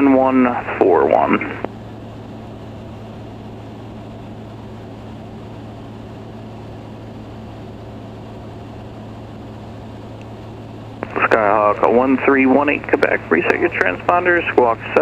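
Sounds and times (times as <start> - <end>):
airplane engine drone in cabin: 0.0 - 15.0.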